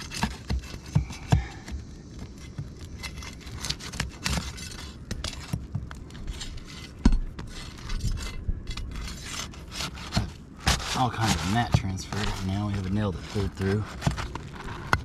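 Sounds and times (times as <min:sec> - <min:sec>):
hand tool scraping under shingles: 0:00.0 - 0:15.0.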